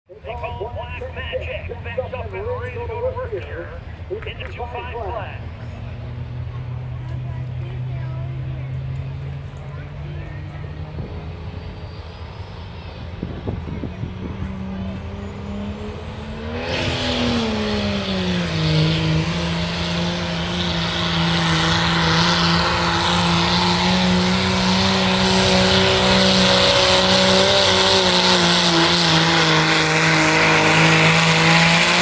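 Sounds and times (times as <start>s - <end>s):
diesel truck engine at full throttle: 0.1s - 32.0s.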